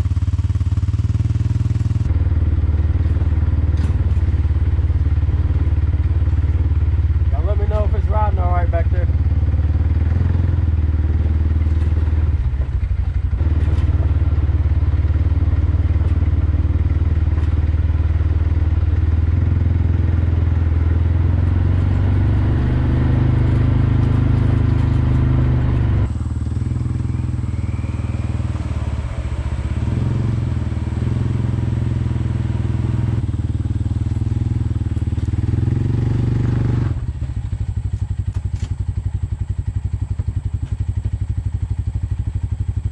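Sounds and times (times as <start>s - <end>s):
gasoline engine running: 0.0s - 42.9s.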